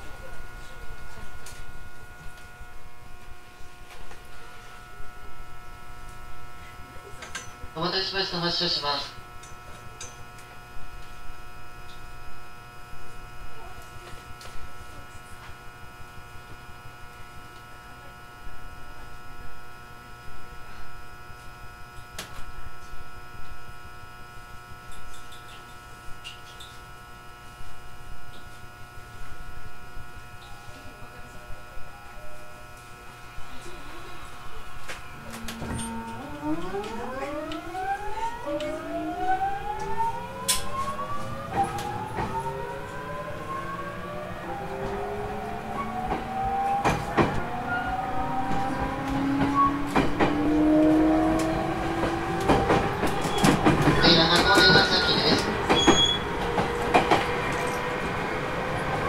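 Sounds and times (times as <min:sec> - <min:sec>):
train electrical equipment hum: 0:00.0 - 0:59.0.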